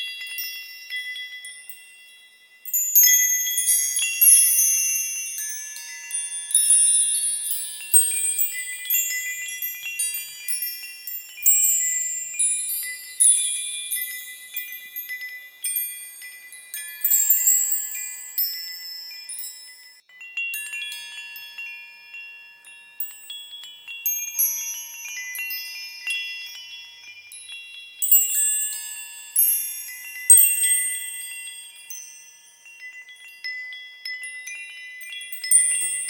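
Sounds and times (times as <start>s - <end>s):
small bells tinkling: 0.0s - 36.0s.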